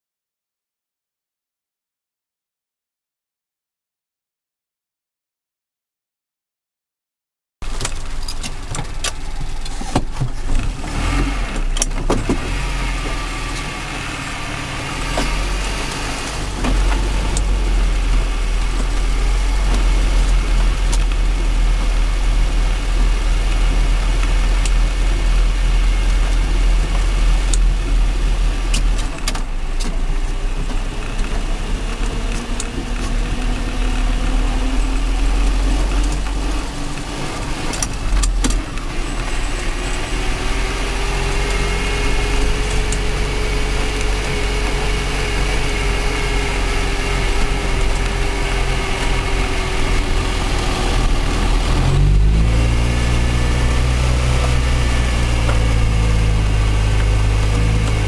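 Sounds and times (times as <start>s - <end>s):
engine rumble inside cab: 7.6s - 58.0s
rising whine: 10.8s - 58.0s.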